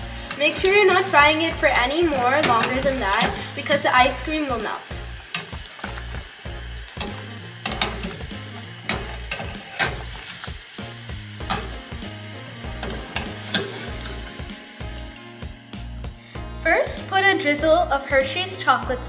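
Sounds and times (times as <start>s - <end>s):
hot oil sizzling: 0.0s - 16.3s
soft background music: 0.0s - 19.0s.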